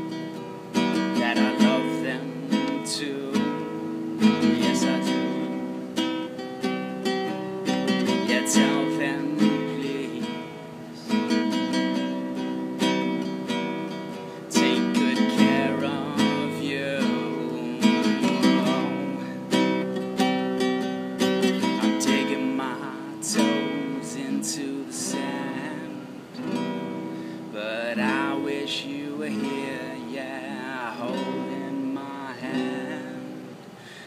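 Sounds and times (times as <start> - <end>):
classical guitar fingerpicked: 0.0 - 34.0.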